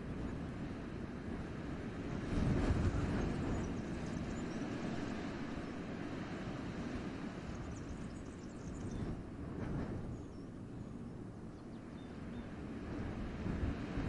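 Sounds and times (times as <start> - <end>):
wind rushing through forest: 0.0 - 14.0.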